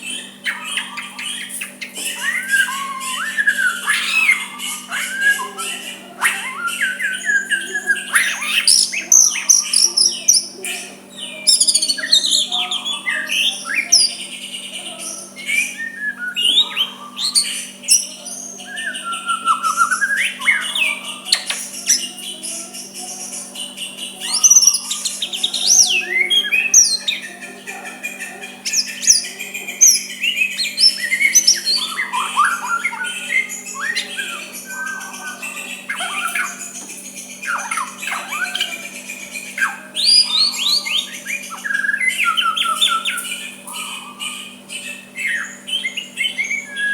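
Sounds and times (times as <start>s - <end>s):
bird singing whistled phrases: 0.0s - 46.9s
harsh bird chattering: 0.0s - 46.9s
steady low hum: 0.0s - 46.9s.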